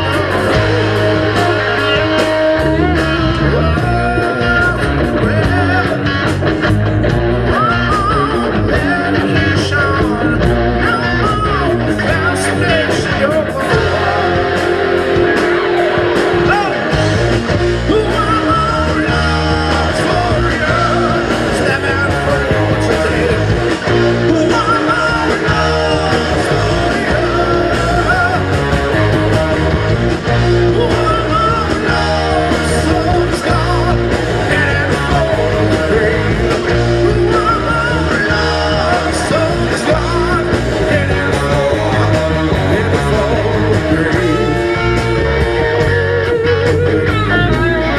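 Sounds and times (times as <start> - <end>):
person singing: 0.0 - 6.1, 7.4 - 17.0, 17.8 - 29.8, 30.6 - 47.9
bass guitar: 0.0 - 47.9
drums: 0.0 - 47.9
electric guitar: 0.0 - 47.9.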